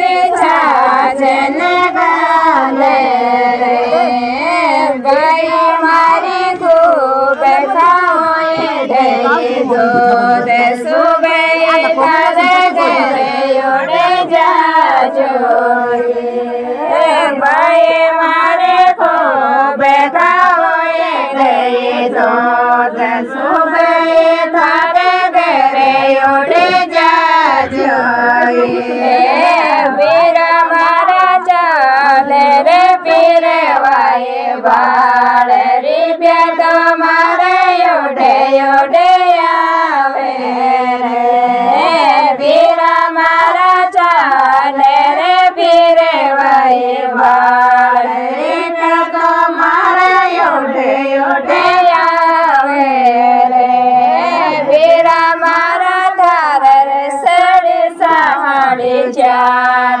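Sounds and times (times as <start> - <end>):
women singing folk song: 0.0 - 60.0.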